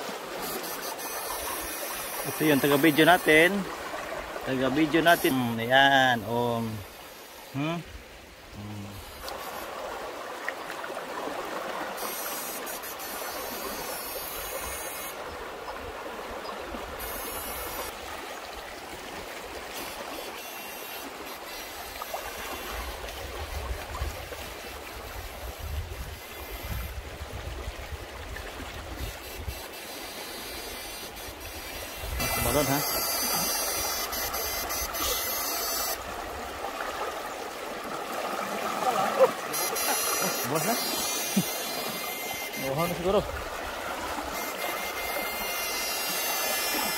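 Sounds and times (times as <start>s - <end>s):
river water rushing: 0.0s - 46.9s.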